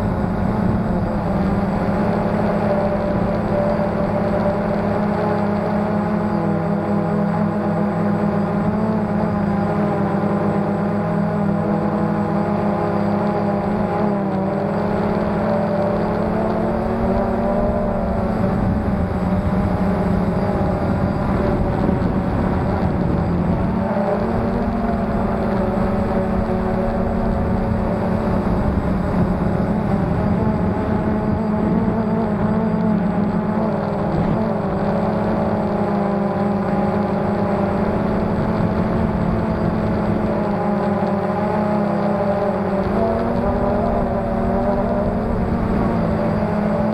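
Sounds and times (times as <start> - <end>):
drone motors and propellers whining: 0.0 - 46.9
wind rumble on microphone: 0.0 - 46.9.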